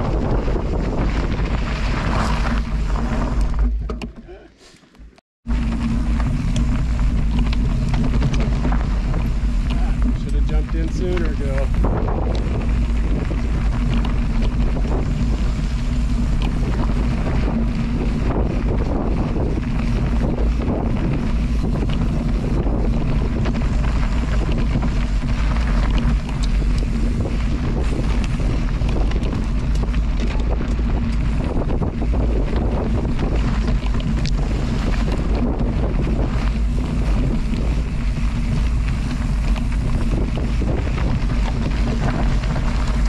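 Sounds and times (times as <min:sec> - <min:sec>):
wind buffeting microphone: 0:00.0 - 0:04.1, 0:05.4 - 0:43.0
continuous low rumble: 0:00.0 - 0:43.0.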